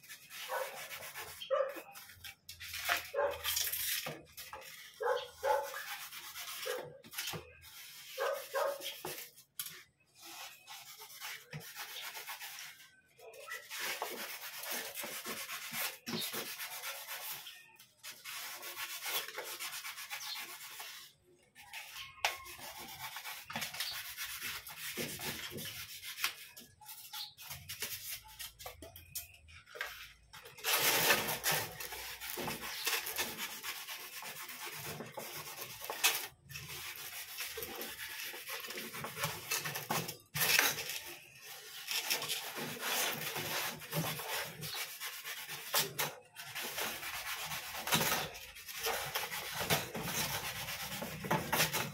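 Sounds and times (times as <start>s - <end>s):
knife sawing through styrofoam: 0.0s - 28.6s, 30.4s - 51.9s.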